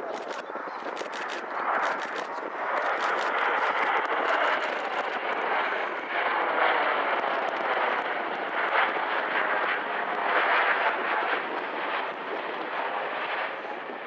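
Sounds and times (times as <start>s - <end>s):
jet aircraft roar: 0.0s - 14.0s.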